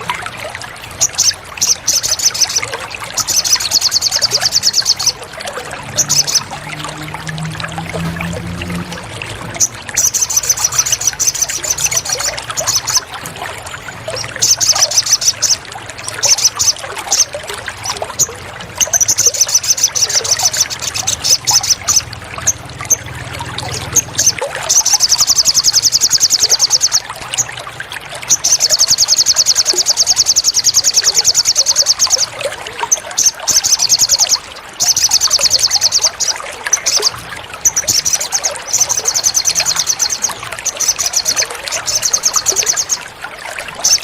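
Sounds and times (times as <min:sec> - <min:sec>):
water trickling and pouring: 0:00.0 - 0:44.0
songbird rattling trills: 0:00.9 - 0:07.2, 0:09.5 - 0:13.2, 0:14.0 - 0:23.1, 0:23.7 - 0:27.5, 0:28.3 - 0:44.0.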